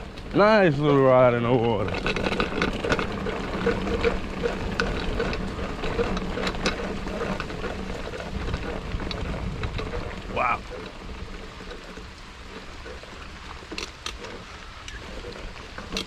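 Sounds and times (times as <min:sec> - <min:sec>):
bike clicks and rattles: 0:00.0 - 0:16.0
bike tyres splashing on wet ground: 0:00.0 - 0:16.0.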